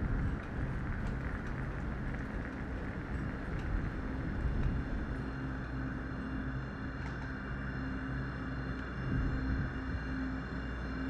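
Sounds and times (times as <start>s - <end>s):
low industrial rumble: 0.0s - 10.6s.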